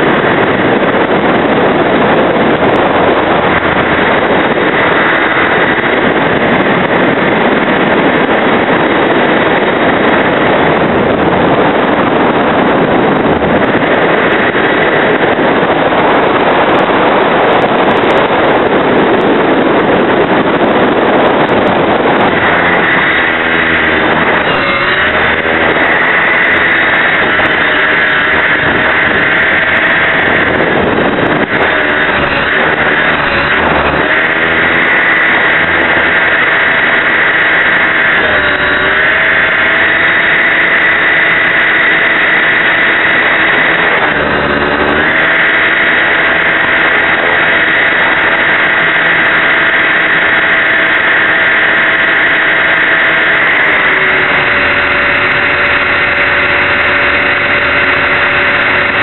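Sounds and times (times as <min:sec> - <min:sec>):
rc helicopter motor whine: 0:00.0 - 0:59.0.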